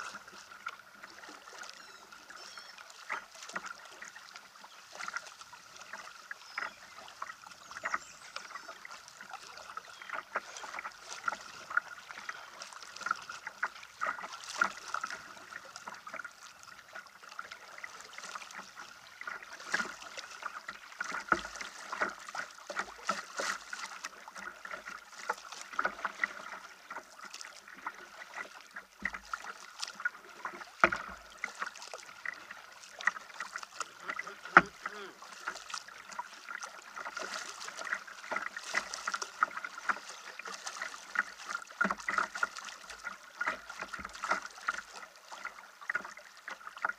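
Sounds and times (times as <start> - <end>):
river water splashing against kayak: 0.0 - 46.9.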